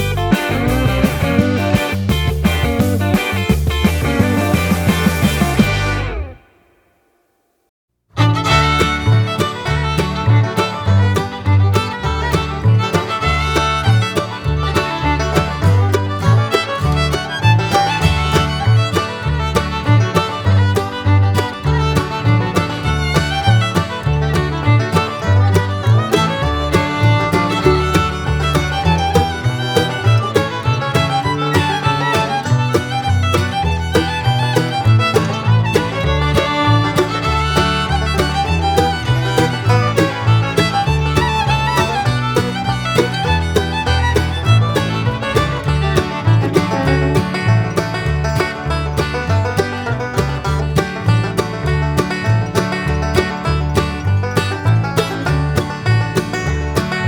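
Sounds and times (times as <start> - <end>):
upbeat bluegrass music: 0.0 - 6.6, 8.1 - 57.0.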